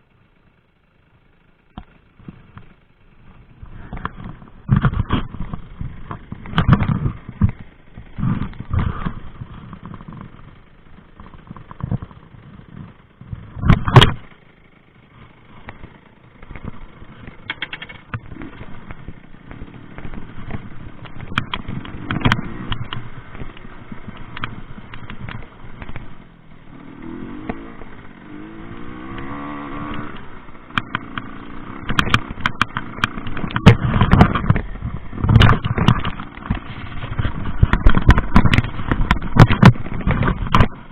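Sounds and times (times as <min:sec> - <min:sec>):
moped engine revving: 0:01.2 - 0:40.9
bike knocks and rattles: 0:01.7 - 0:26.3, 0:29.1 - 0:40.9.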